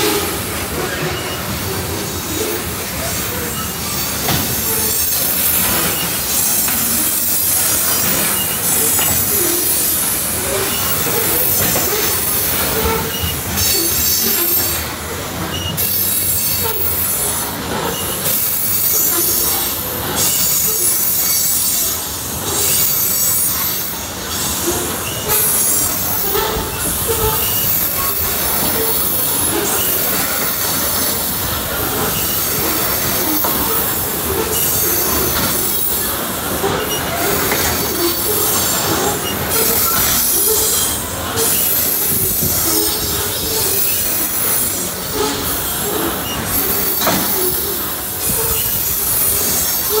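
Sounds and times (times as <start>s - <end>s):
steel wheels on rails: 0.0s - 50.0s.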